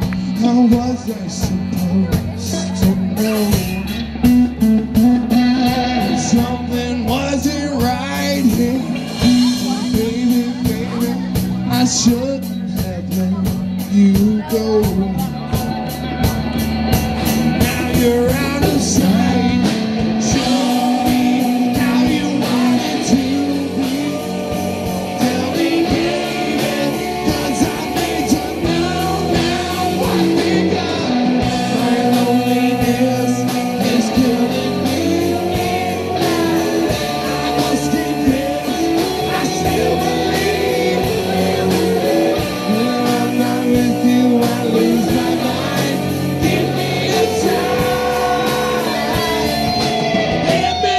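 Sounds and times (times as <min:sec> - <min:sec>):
bass guitar: 0:00.0 - 0:50.9
drum kit: 0:00.0 - 0:50.9
electric guitars: 0:00.0 - 0:50.9.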